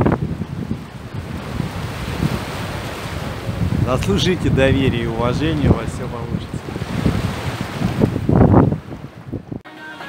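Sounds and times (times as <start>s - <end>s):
surf hissing on beach: 0.0s - 9.1s
wind buffeting microphone: 0.0s - 9.6s.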